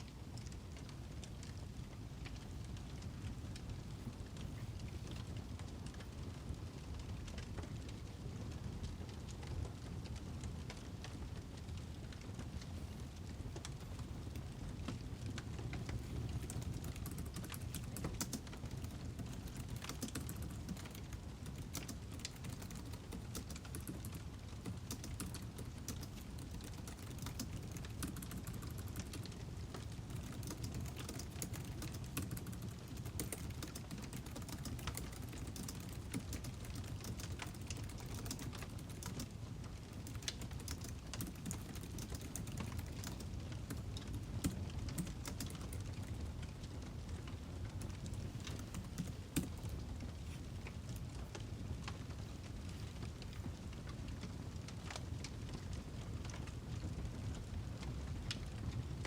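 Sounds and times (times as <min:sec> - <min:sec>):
low rumble of burning logs: 0:00.0 - 0:59.0
wood fire crackling and popping: 0:00.0 - 0:59.0.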